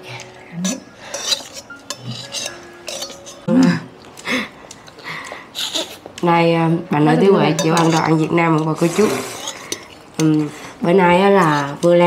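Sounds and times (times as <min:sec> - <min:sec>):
utensils clinking against bowls: 0:00.0 - 0:06.3, 0:06.9 - 0:12.0.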